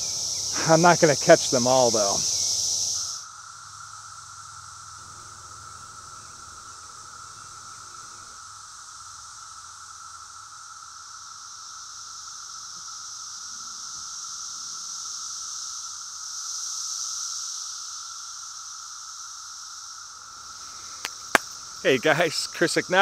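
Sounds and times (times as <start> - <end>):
cicadas droning: 0.0 - 23.0.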